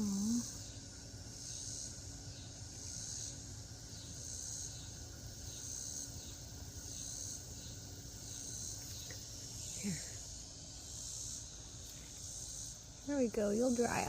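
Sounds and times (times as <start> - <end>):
insects trilling at night: 0.0 - 14.0.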